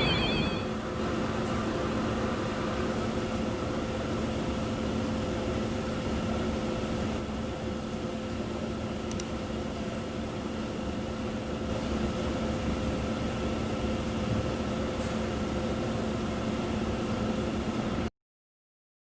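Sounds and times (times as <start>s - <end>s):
dyeing machinery humming: 0.0s - 18.1s.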